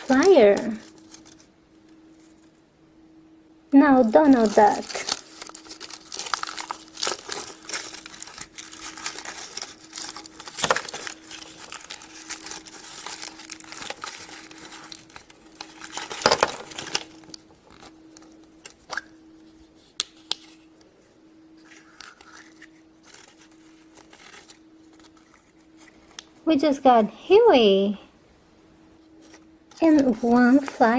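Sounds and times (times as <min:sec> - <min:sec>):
foil wrapper crinkling: 0:00.0 - 0:02.5, 0:04.0 - 0:20.7, 0:21.6 - 0:26.3, 0:29.1 - 0:30.9.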